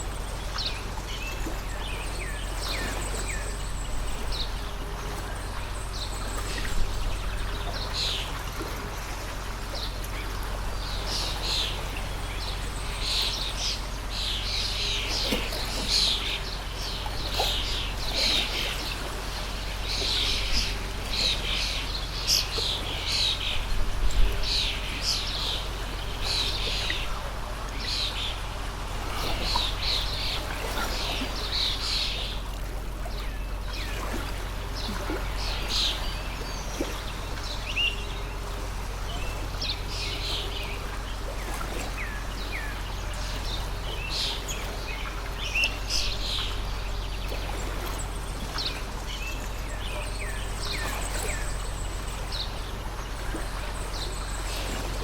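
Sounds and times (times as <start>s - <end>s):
birds chirping: 0.0s - 55.0s
stream of running water: 0.0s - 55.0s.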